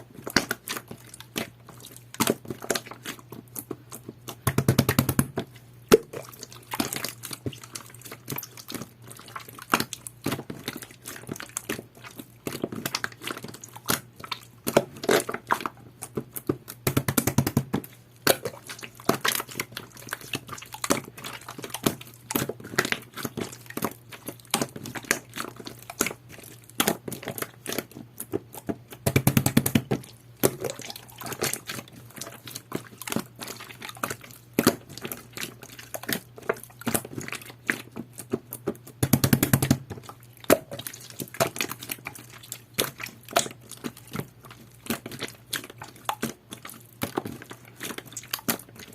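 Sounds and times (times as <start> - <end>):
slime squished by hand: 0.1 - 48.9.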